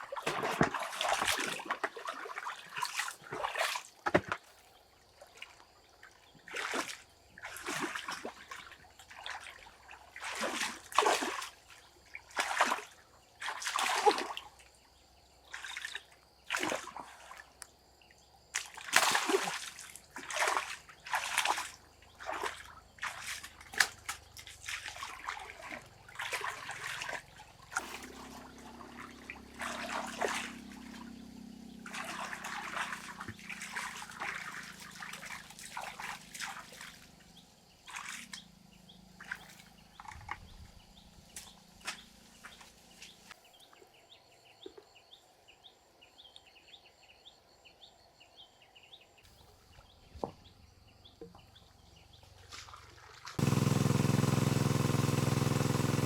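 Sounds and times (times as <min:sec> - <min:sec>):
water splashing and sloshing: 0:00.0 - 0:14.8, 0:15.4 - 0:17.8, 0:18.4 - 0:43.4, 0:52.2 - 0:56.0.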